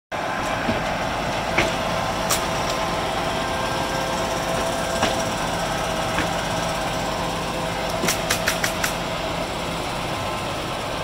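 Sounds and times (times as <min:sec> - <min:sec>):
diesel truck engine running: 0:00.1 - 0:11.0.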